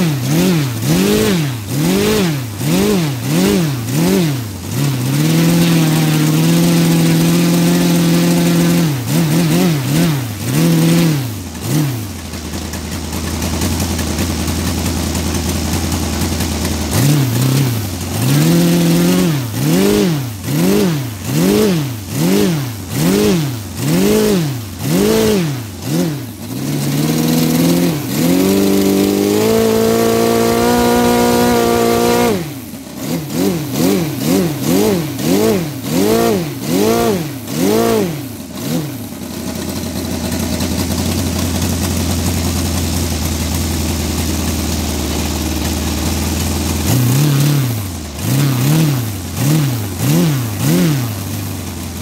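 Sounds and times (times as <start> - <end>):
model aircraft engine revving: 0.0 - 52.0.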